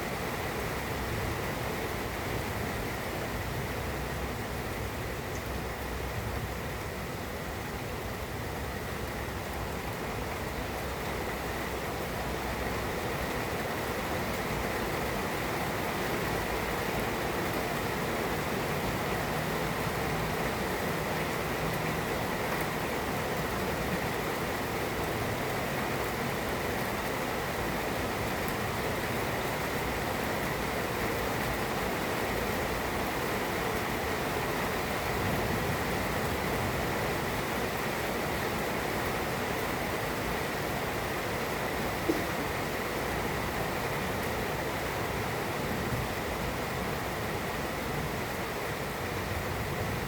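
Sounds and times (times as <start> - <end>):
heavy rain pouring: 0.1 - 50.0.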